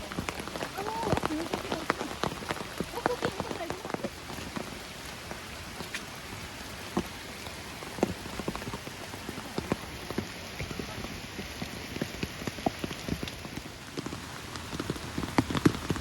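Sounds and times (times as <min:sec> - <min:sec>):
heavy rain falling: 0:00.0 - 0:16.0
raindrop hits close by: 0:00.0 - 0:16.0.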